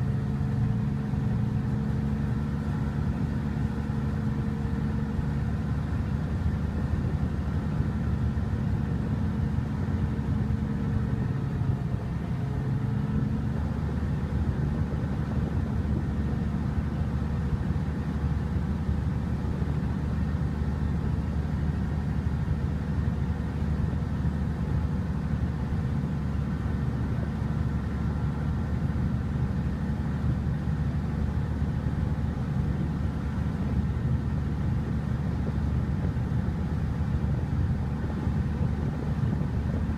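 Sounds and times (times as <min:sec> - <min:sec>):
ferry engine drone: 0:00.0 - 0:39.9.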